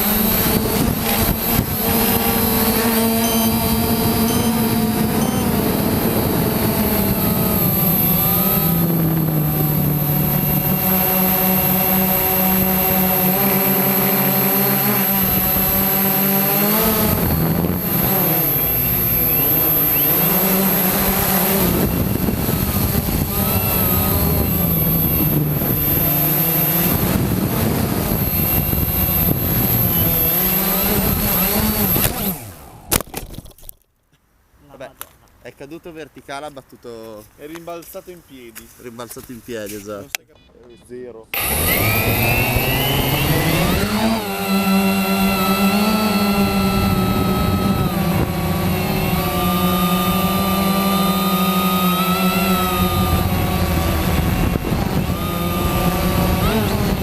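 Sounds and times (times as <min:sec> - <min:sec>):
drone motors whirring: 0:00.0 - 0:33.5, 0:41.3 - 0:57.0.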